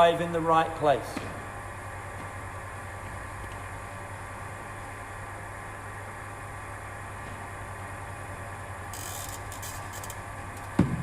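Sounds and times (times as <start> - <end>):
bowling machine motor hum: 0.0 - 11.0.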